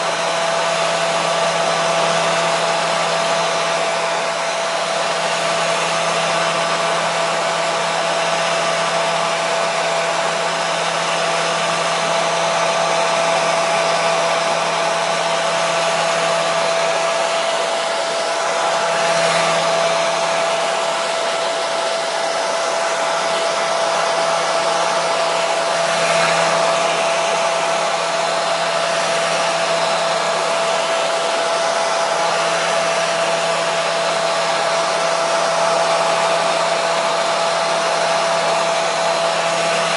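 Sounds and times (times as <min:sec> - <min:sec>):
hair dryer rushing air: 0:00.0 - 0:39.9
motor hum: 0:00.0 - 0:39.9.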